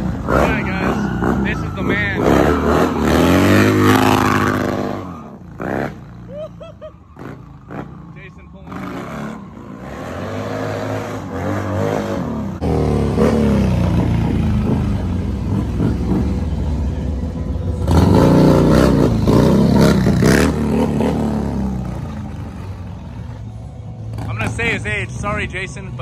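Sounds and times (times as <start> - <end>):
motorcycle engine revving: 0.0 - 6.4, 7.0 - 25.6.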